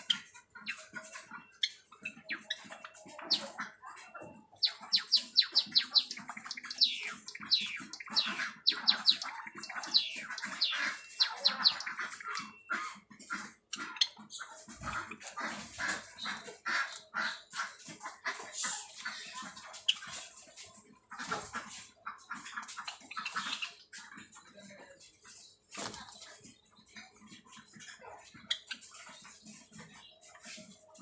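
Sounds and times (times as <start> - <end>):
beaks pecking plastic tub: 0.0 - 30.8
birds chirping: 0.0 - 31.0.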